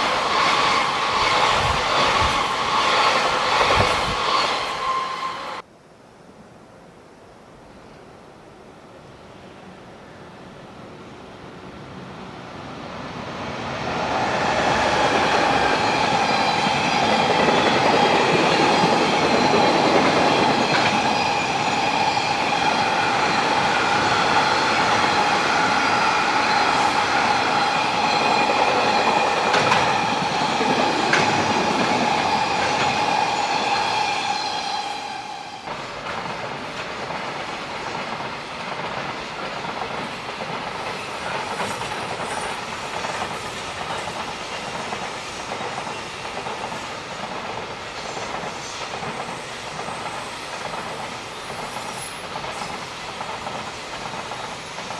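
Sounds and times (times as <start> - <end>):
train wheels rolling on rail: 0.0 - 5.6, 11.4 - 54.9.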